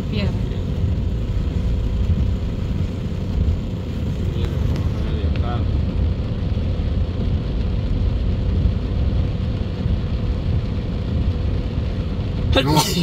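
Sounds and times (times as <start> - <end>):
car cabin rumble: 0.0 - 13.0
tyres hissing on wet road: 0.0 - 13.0.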